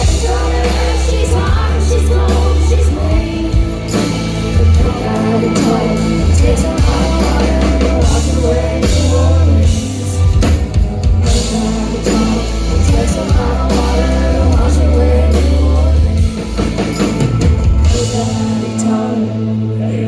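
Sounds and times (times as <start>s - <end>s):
country band playing live: 0.0s - 20.0s
person singing: 0.0s - 20.0s.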